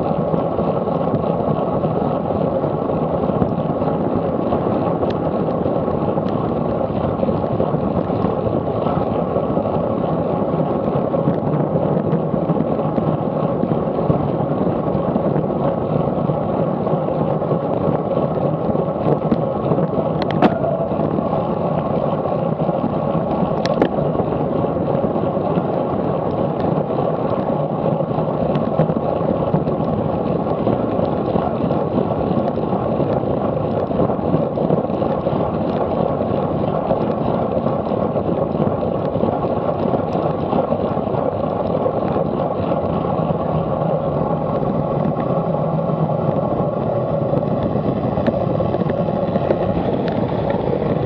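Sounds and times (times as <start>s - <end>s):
wind rush on microphone: 0.0s - 51.0s.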